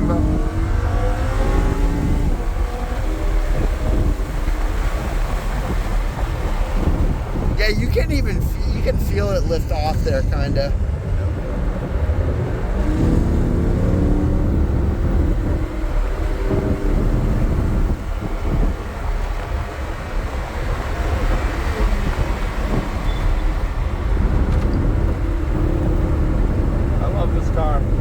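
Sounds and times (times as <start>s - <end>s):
car engine running hard: 0.0s - 28.0s
road and wind rumble: 0.0s - 28.0s.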